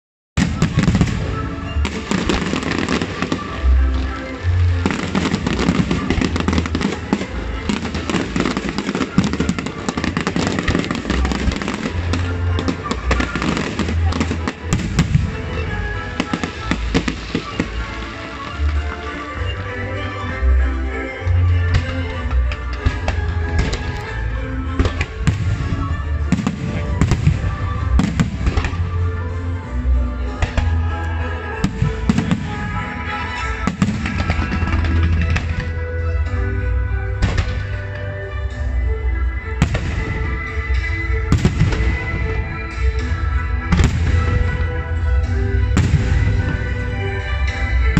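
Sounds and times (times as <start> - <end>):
fireworks bursting and crackling: 0.4 - 20.2, 21.3 - 29.4, 30.2 - 36.4, 37.1 - 38.7, 39.5 - 47.9
music playing: 0.4 - 47.9.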